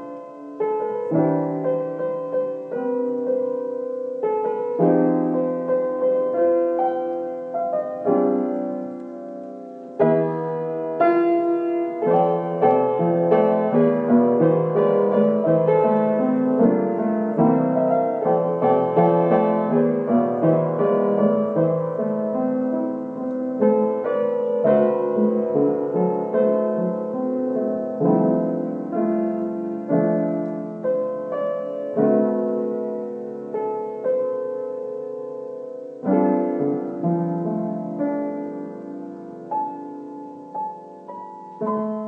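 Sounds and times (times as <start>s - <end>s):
solo piano melody: 0.0s - 42.0s.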